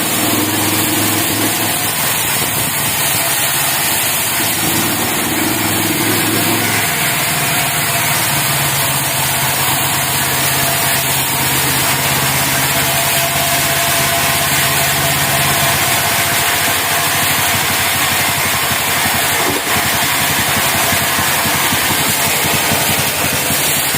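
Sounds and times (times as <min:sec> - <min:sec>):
band sawmill engine hum: 0:00.0 - 0:23.9.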